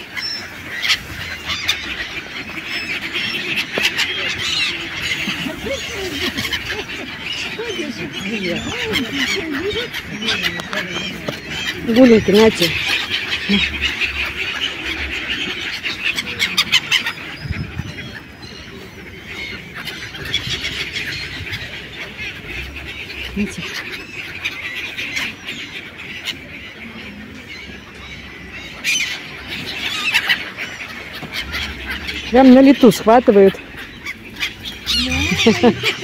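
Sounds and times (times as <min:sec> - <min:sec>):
gulls calling: 0:00.0 - 0:36.0.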